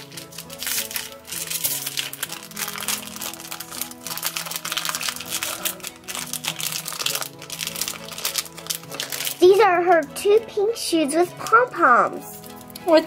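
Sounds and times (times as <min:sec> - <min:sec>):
plastic bag crinkling: 0:00.0 - 0:10.7, 0:11.3 - 0:13.0
background music: 0:00.0 - 0:13.0.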